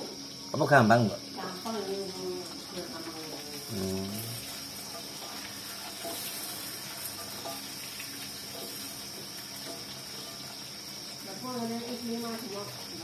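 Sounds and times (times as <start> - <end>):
food sizzling in hot oil: 0.0 - 13.0
high-pitched hiss: 0.0 - 13.0.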